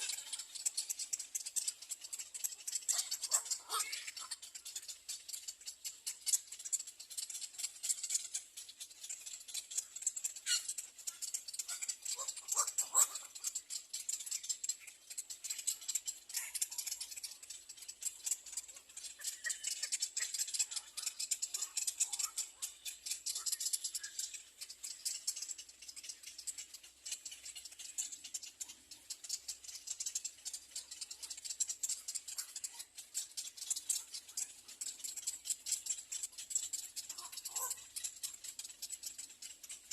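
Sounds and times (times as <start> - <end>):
nestlings harsh rattling chatter: 0.0 - 39.9.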